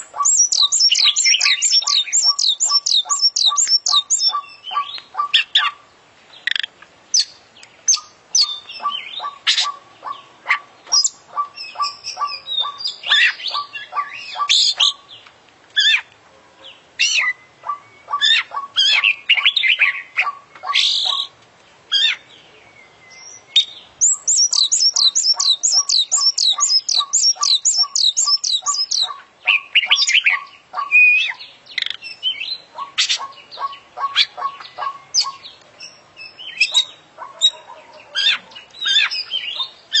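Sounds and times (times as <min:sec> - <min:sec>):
bird singing varied song: 0:00.0 - 0:40.0.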